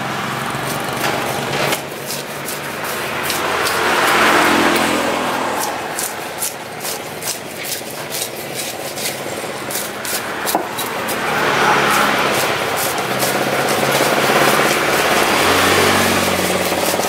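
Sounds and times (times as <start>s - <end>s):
vehicle engine running: 0.0s - 17.0s
knife cutting fish on wooden block: 0.6s - 17.0s.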